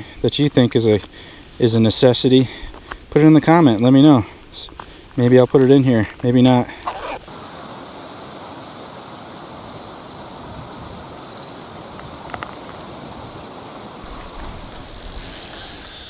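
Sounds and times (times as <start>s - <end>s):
lakeshore ambient hiss: 0.0s - 16.0s.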